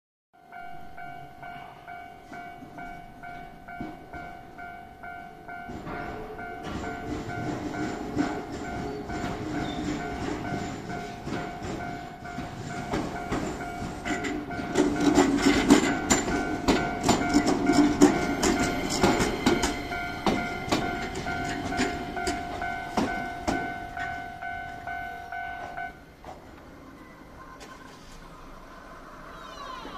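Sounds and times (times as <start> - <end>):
crossing warning bell: 0.4 - 28.0
electric train passing: 0.4 - 29.9
wheels clacking over rail joints: 2.2 - 28.3.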